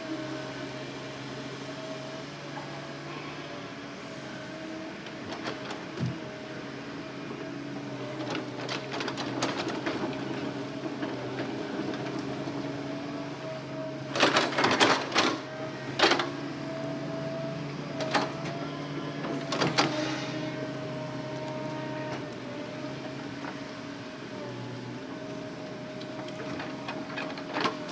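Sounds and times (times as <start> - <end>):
excavator engine running: 0.0 - 27.9.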